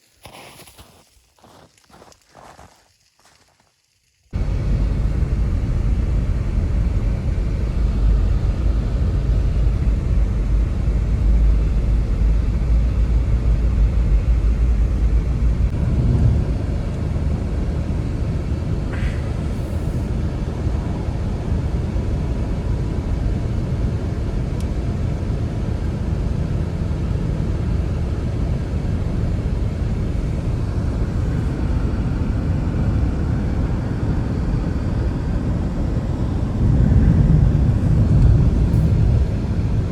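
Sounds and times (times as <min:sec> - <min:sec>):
storm wind buffeting microphone: 0:04.4 - 0:39.9.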